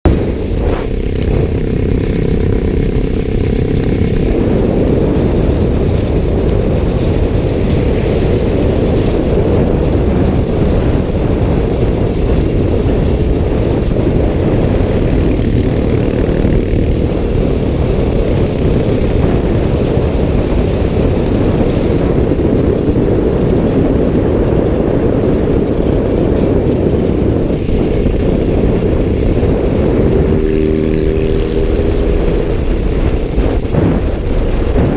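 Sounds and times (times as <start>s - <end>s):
motorcycle engine running: 0.0s - 34.9s
wind noise on microphone: 0.0s - 34.9s.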